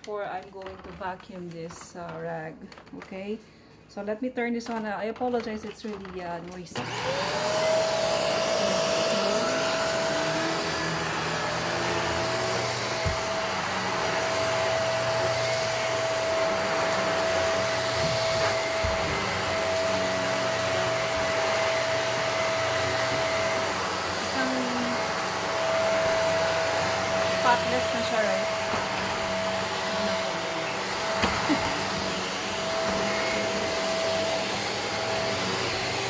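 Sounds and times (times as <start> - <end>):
vacuum cleaner running: 6.5 - 36.0.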